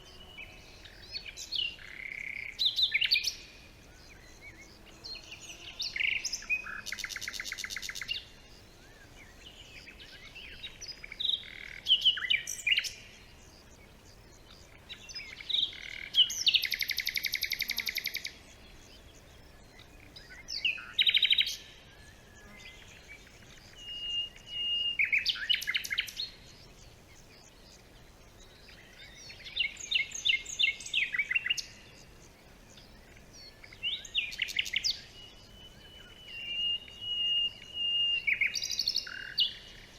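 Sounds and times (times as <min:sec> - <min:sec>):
bird calls and chirps: 0:00.0 - 0:39.9
songbirds singing trills: 0:00.0 - 0:39.9.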